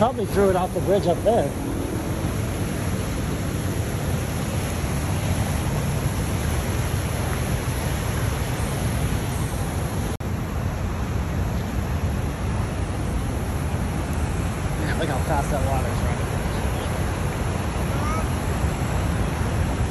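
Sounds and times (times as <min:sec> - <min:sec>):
river rapids roaring: 0:00.0 - 0:19.9.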